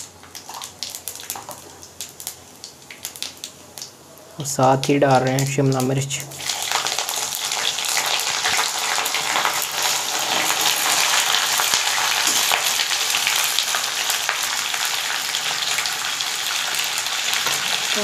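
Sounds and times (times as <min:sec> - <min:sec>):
vegetables sizzling in hot oil: 0:00.0 - 0:03.9, 0:04.7 - 0:18.0.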